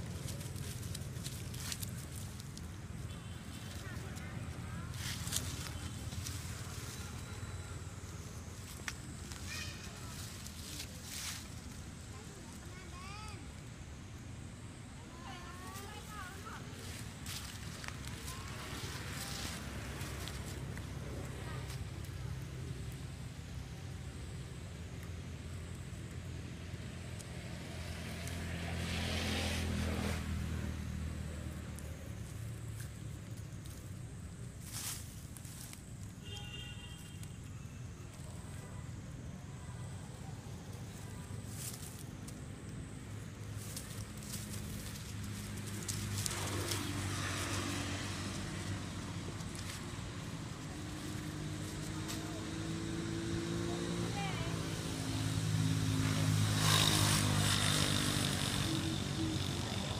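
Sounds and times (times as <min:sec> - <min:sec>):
rustling dry leaves: 0:00.0 - 0:59.9
vehicle engine humming: 0:00.0 - 0:59.9.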